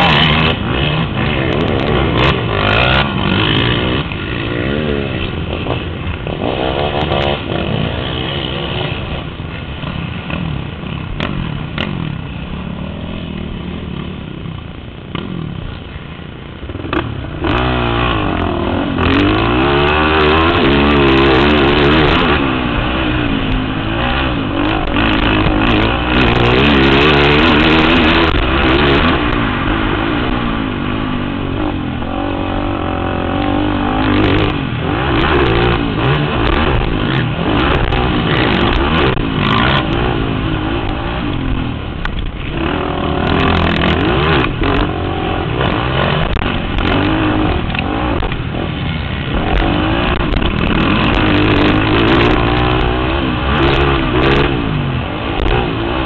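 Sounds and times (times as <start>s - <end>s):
quad engines revving: 0.0s - 15.9s, 16.6s - 56.0s.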